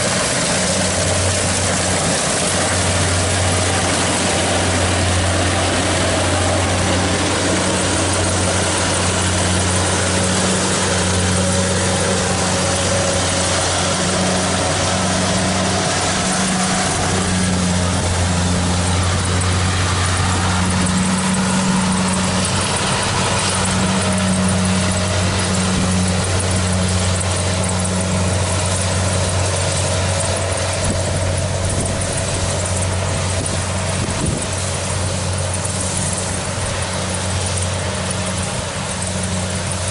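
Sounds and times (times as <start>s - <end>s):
combine harvester engine hum: 0.0s - 39.9s
mechanical clatter and rush: 0.0s - 39.9s.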